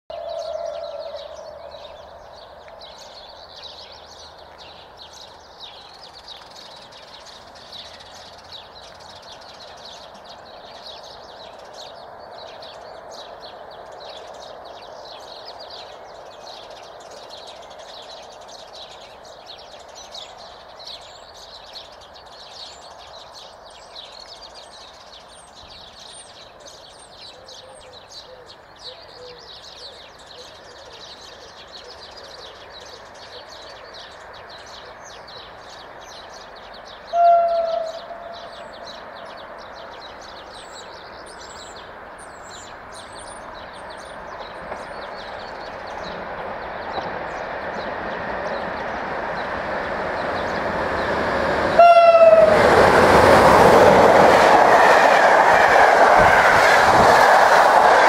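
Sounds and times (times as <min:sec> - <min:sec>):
small birds chirping: 0:00.1 - 0:51.4.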